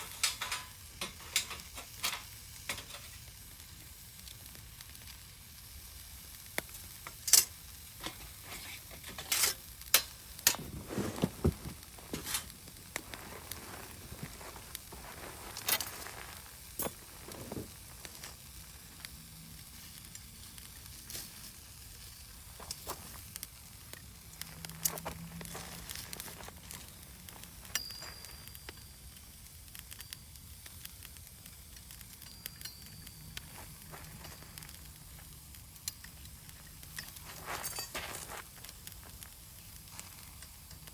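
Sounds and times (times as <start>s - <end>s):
campfire crackling and hissing: 0.0s - 40.9s
sharp fire pops: 0.0s - 40.9s.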